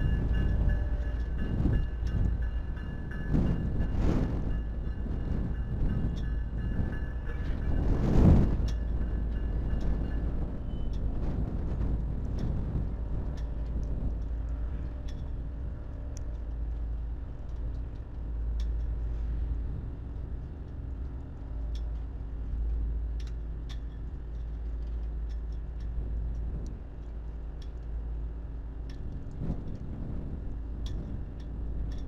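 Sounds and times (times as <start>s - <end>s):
train rolling past: 0.0s - 32.0s.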